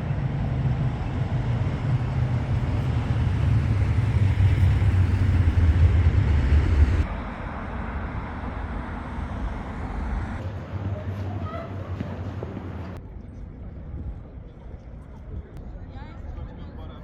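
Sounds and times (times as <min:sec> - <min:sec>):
low rumble of traffic or wind: 0:00.0 - 0:17.0.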